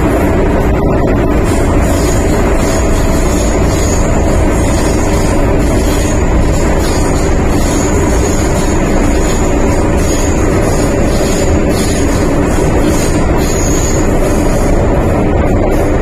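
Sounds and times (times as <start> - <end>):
thin high whine: 0.0 - 16.0
train wheels rumbling on rails: 0.0 - 16.0.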